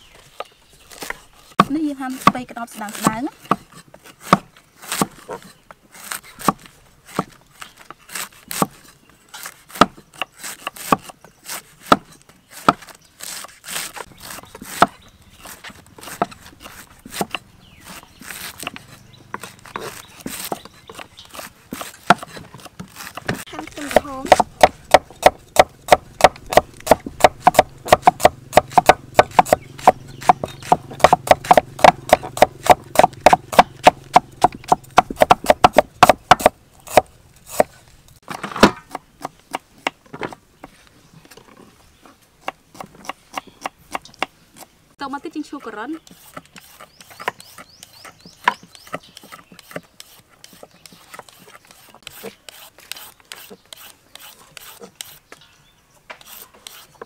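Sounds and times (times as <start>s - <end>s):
cleaver chopping on wooden block: 1.0s - 7.4s, 8.1s - 8.8s, 9.4s - 40.4s, 42.4s - 44.4s, 46.1s - 55.2s.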